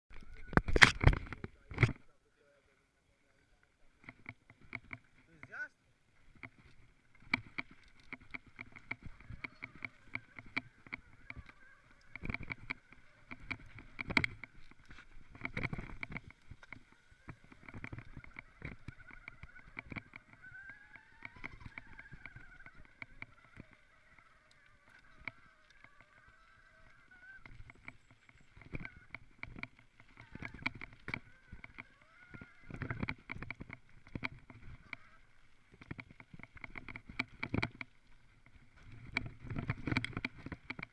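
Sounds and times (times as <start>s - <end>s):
bike rattling over bumps: 4.0s - 40.9s.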